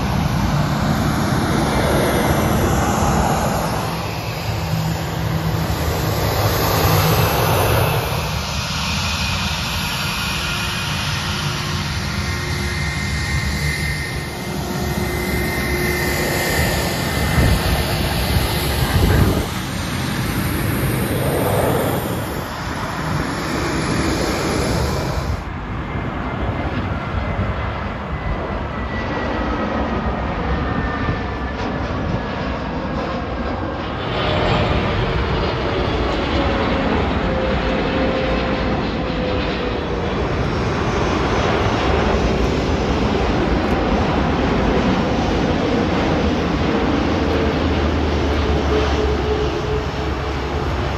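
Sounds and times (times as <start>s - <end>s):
jet engines whine and rumble: 0.0s - 50.9s
jet passing on approach: 0.0s - 50.9s.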